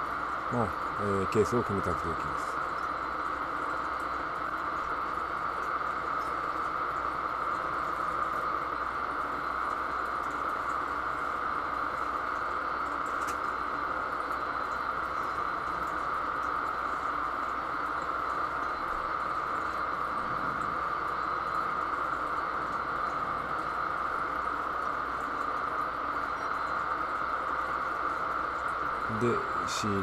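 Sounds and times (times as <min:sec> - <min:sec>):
low hum: 0:00.0 - 0:30.0
steady background hiss: 0:00.0 - 0:30.0.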